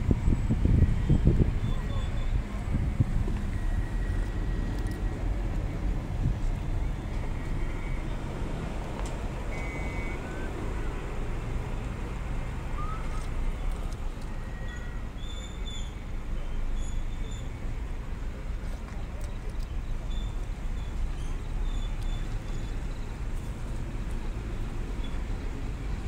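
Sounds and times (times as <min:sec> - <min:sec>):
car driving on road: 0:00.0 - 0:26.0.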